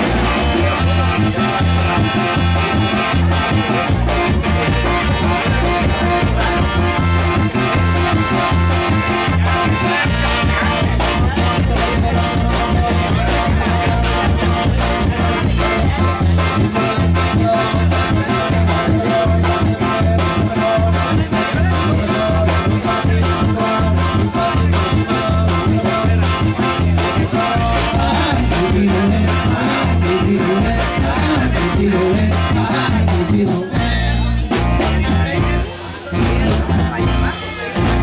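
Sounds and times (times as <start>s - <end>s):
live latin dance band: 0.0s - 38.0s.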